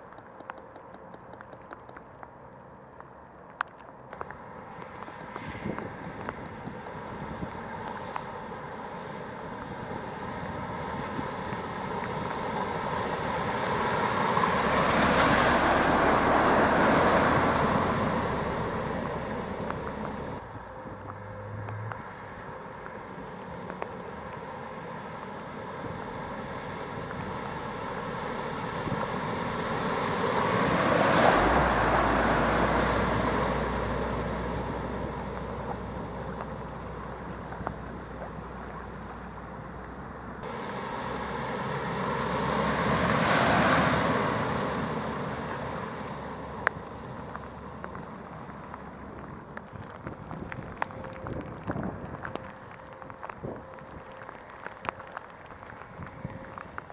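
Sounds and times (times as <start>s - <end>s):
tyres splashing through floodwater: 0.0s - 20.5s, 21.6s - 56.9s
lorry engine hum: 0.0s - 56.9s.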